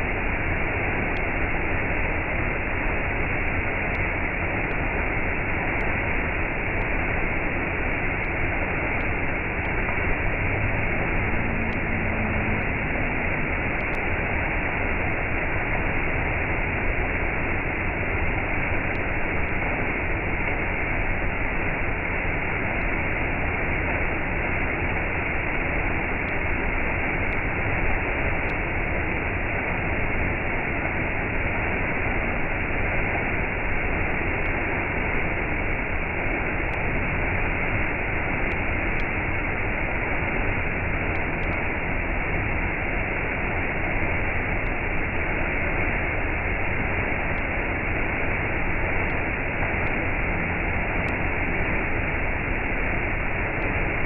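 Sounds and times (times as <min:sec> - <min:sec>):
waterfall rushing into pool: 0:00.1 - 0:54.0.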